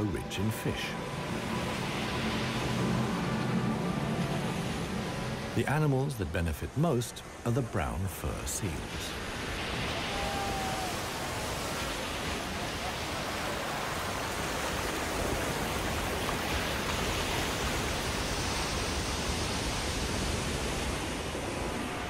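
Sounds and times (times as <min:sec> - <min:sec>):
surf breaking over rocks: 0:02.6 - 0:22.0.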